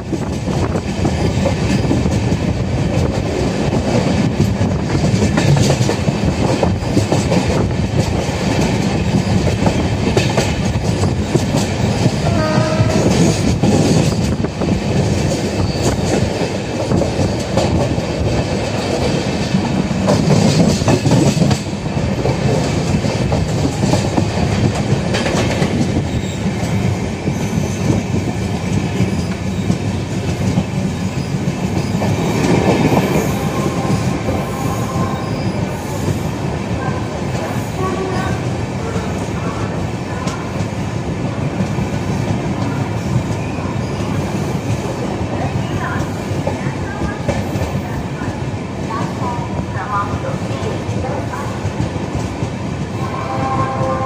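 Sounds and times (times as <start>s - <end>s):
train rumbling track noise: 0.0s - 54.0s.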